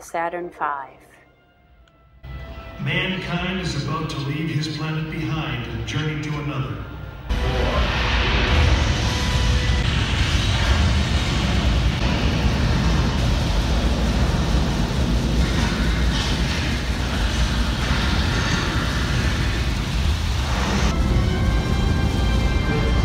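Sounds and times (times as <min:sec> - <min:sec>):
rocket launch roar over speakers: 0:02.9 - 0:23.0.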